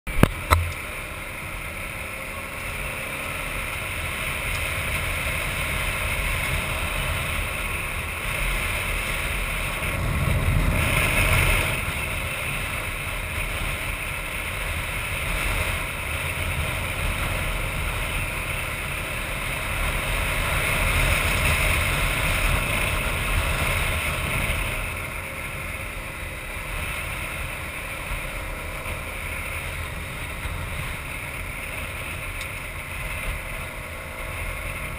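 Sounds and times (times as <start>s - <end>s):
motorcycle engine low rumble: 0.1s - 34.9s
wind rushing over microphone: 0.1s - 34.9s.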